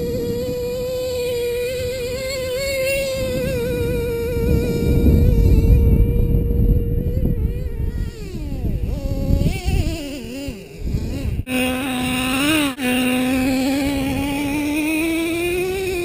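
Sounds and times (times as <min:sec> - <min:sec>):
small two-stroke engine whining: 0:00.0 - 0:16.0.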